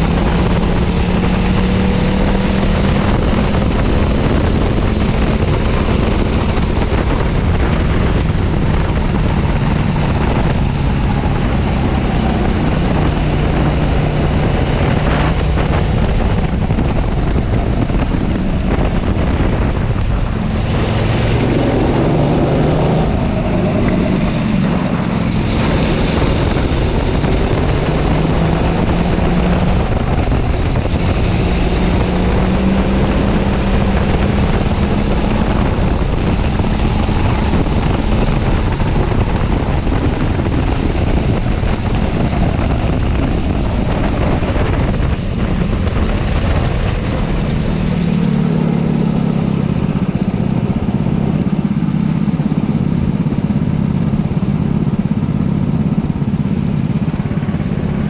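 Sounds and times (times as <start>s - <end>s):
kart engine at full throttle: 0.0s - 58.0s
wind rumbling on microphone: 0.0s - 58.0s.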